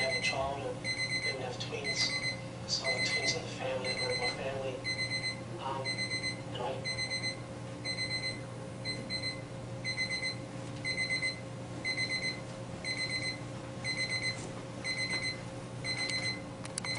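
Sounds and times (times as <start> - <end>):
electronic alarm beeping: 0.0 - 16.9
steady low hum: 0.0 - 16.9.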